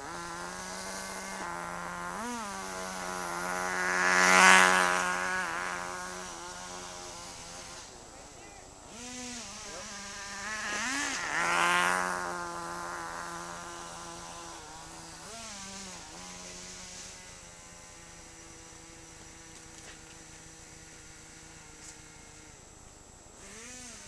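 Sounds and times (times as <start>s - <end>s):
small nitro engine buzzing: 0.0s - 24.0s.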